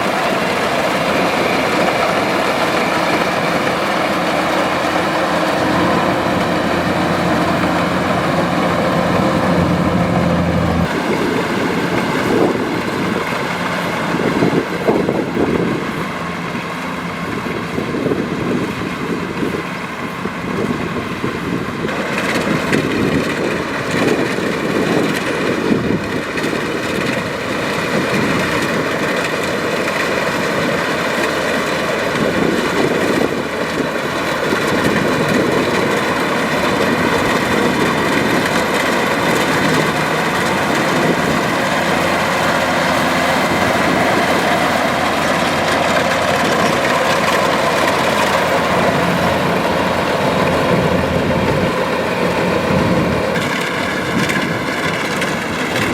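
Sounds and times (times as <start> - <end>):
combine harvester engine humming: 0.0 - 55.9.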